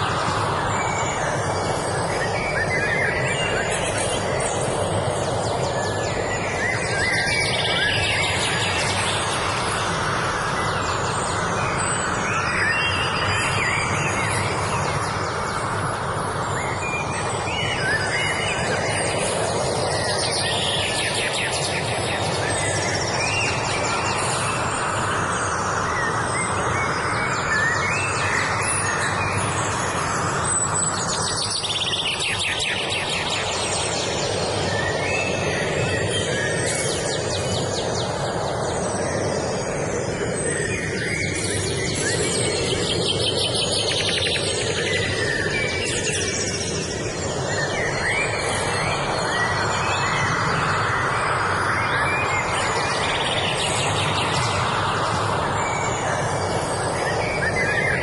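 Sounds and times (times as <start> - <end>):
birds singing with trills: 0.0 - 58.0.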